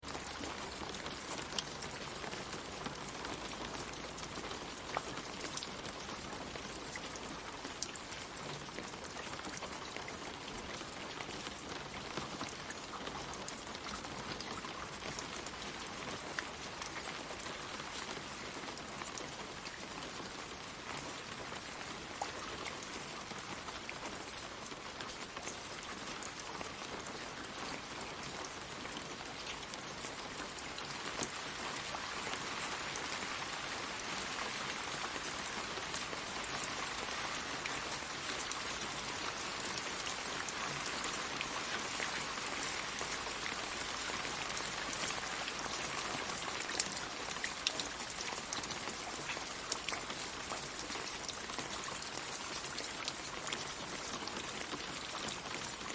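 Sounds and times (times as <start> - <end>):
light rain pattering on leaves: 0.0 - 55.9.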